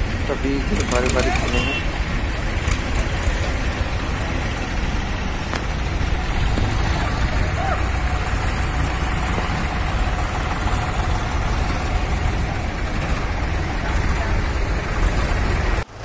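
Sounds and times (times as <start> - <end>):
tractor engines idling: 0.0 - 16.0.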